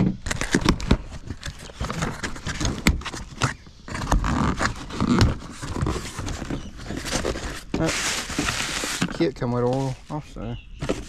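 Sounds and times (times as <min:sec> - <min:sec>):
cardboard box scraping and rustling: 0:00.0 - 0:11.0.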